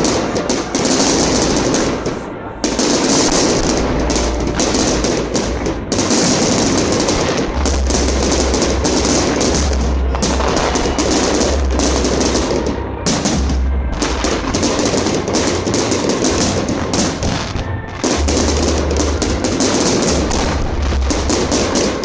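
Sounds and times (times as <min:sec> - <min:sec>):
fireworks crackling: 0:00.0 - 0:22.0
deep low rumbling: 0:01.0 - 0:22.0.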